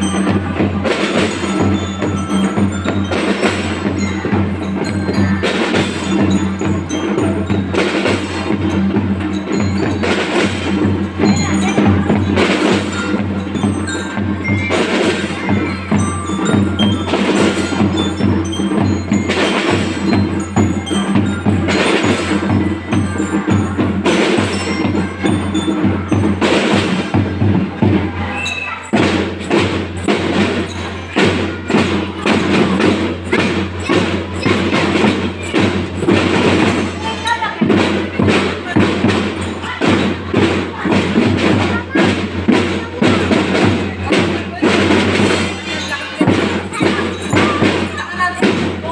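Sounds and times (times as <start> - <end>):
glockenspiel notes: 0.0 - 48.9
marching drums: 0.0 - 48.9.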